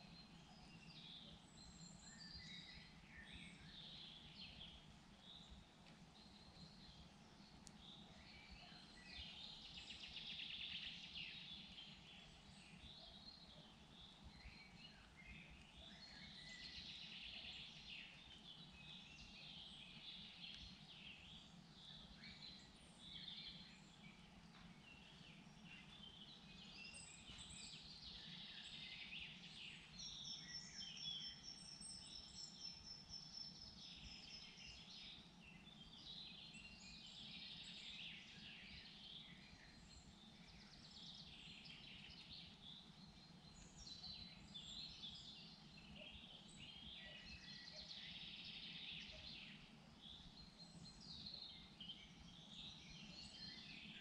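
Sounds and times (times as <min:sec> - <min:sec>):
faint low background noise: 0:00.0 - 0:54.0
songbirds singing and calling: 0:00.0 - 0:54.0.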